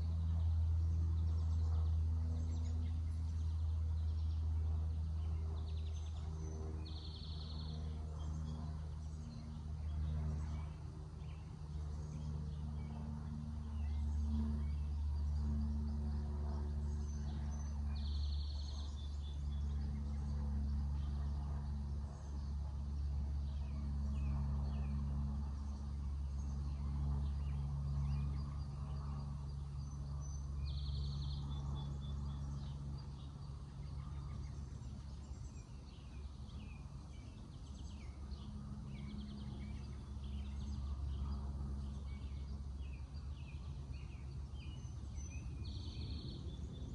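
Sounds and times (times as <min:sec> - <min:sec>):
steady low hum: 0:00.0 - 0:46.9
small birds chirping: 0:00.1 - 0:46.9.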